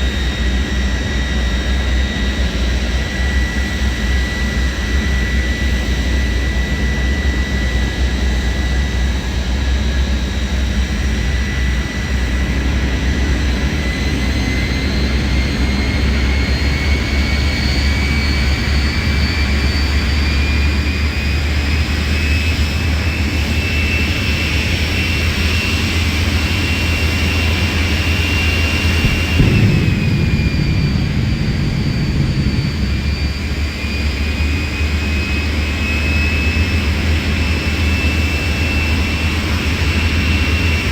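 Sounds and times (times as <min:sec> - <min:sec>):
jet engine rumble and whine: 0:00.0 - 0:40.9.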